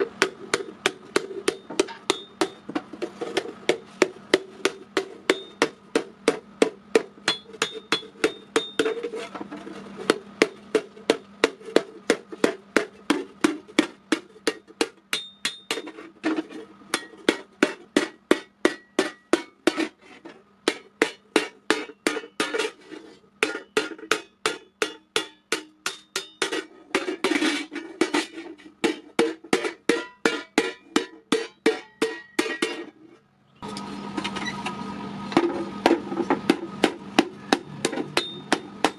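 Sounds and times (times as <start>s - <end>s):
hammer beating metal plate: 0.0s - 9.2s, 10.0s - 20.0s, 20.6s - 22.8s, 23.4s - 32.9s, 35.4s - 38.9s.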